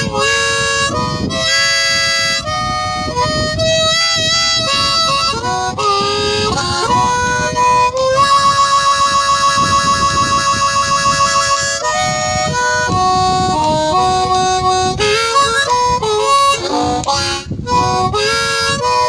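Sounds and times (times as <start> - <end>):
blues harmonica playing: 0.0 - 19.0.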